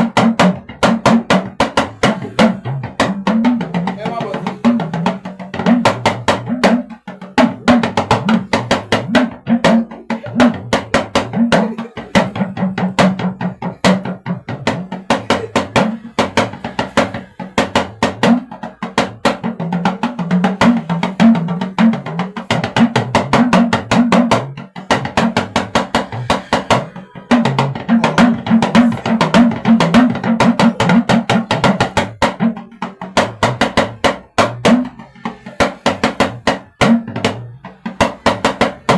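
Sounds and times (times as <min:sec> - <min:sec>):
talking drum strokes: 0:00.0 - 0:38.9.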